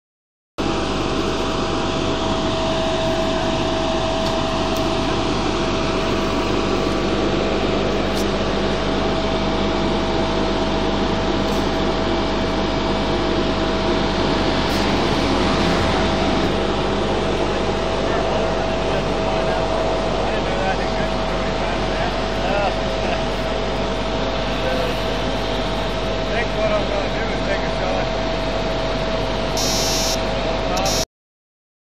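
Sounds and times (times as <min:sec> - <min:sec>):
excavation machine droning: 0:00.6 - 0:31.0.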